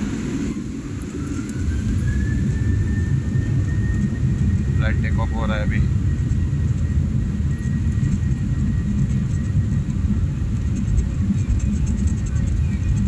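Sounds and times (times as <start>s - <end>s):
airliner cabin low rumble: 0.0s - 13.0s
faint high whine: 0.0s - 13.0s.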